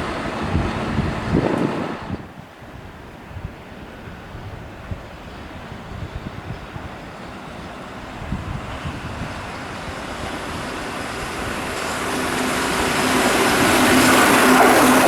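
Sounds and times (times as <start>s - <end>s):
wind on microphone: 0.0s - 7.2s, 8.0s - 15.0s
electric train approaching: 0.0s - 15.0s.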